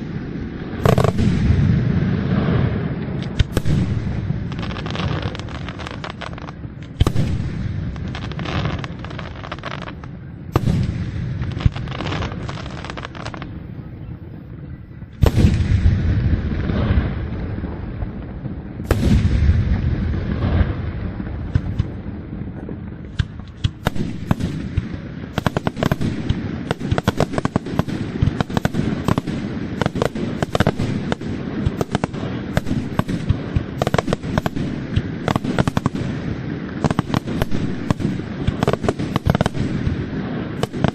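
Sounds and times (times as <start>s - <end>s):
firework shells bursting with crackle: 0.0s - 13.6s, 15.1s - 40.9s
heavy firework booms: 0.0s - 14.0s, 14.9s - 40.9s.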